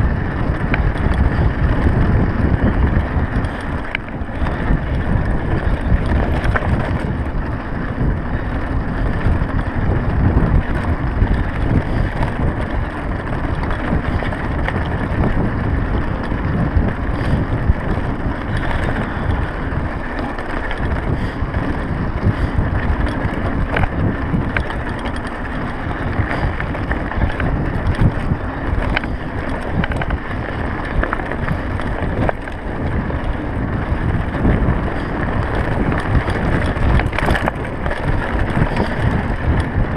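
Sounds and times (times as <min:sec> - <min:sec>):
bike rattles and clicks: 0:00.0 - 0:39.9
tyres on gravel track: 0:00.0 - 0:39.9
wind rumbling on microphone: 0:00.0 - 0:39.9.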